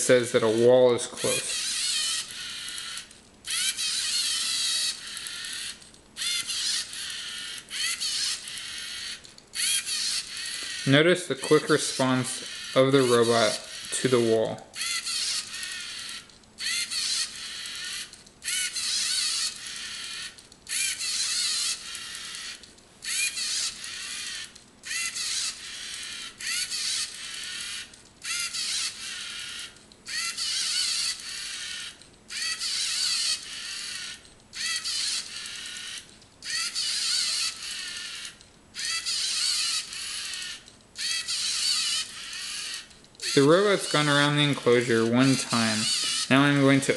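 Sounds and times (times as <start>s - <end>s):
servo motors whining: 0.1s - 46.8s.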